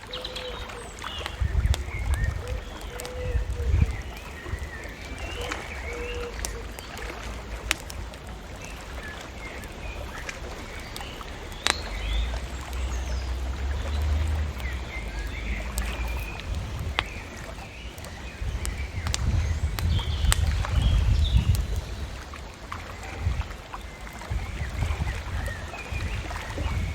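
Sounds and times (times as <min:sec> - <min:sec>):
bonfire crackling and popping: 0:00.0 - 0:26.9
small birds chirping: 0:00.0 - 0:26.9.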